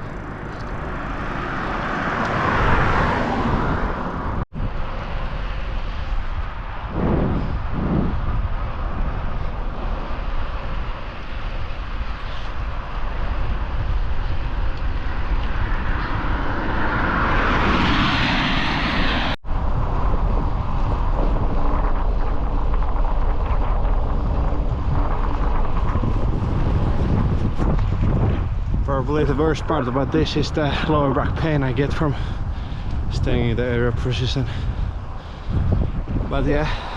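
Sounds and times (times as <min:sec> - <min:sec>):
wind rushing on microphone: 0:00.0 - 0:36.9.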